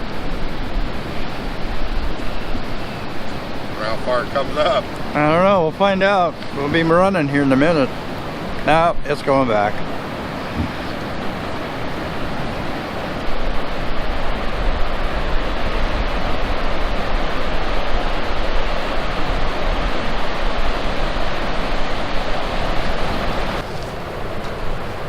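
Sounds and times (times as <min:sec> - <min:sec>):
low surf rumble: 0:00.0 - 0:25.0
waves breaking on a beach: 0:00.0 - 0:25.0.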